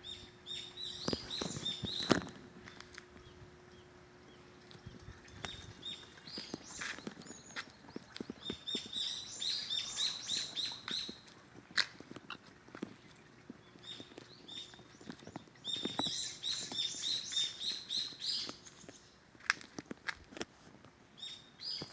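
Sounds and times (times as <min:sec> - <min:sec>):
small birds chirping: 0:00.0 - 0:20.1, 0:21.1 - 0:21.9.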